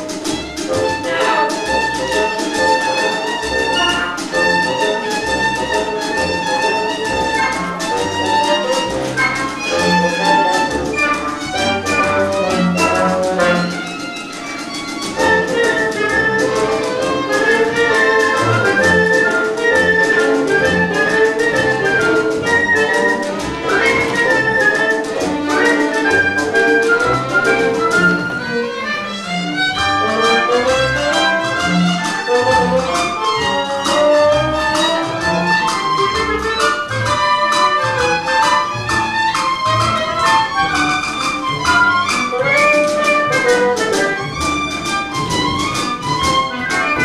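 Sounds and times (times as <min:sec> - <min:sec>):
orchestra playing lively music: 0:00.0 - 0:47.0.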